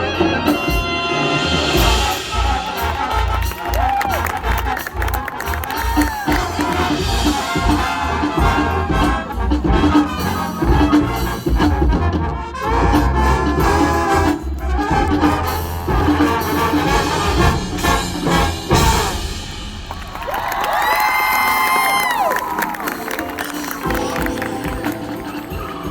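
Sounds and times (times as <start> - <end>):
brass section playing: 0.0 - 25.9
drumline percussion: 0.0 - 25.9.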